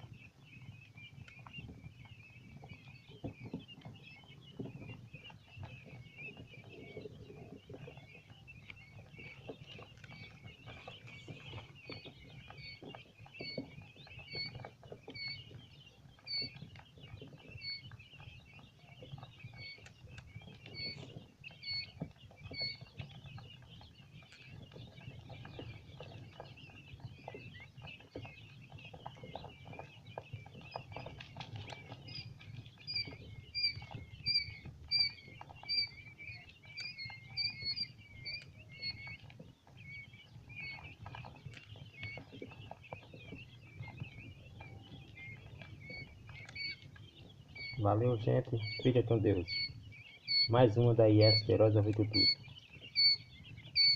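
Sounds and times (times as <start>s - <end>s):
chicks peeping and chirping: 0.0s - 53.9s
chicks scratching and clicking: 0.0s - 53.9s.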